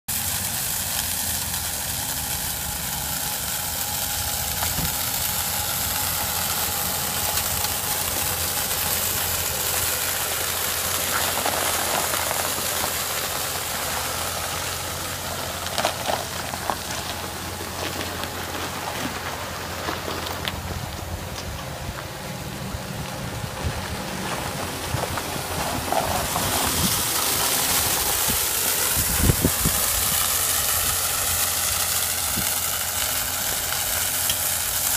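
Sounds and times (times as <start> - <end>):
constant hiss: 0.1 - 34.9
truck engine idling: 0.1 - 34.9.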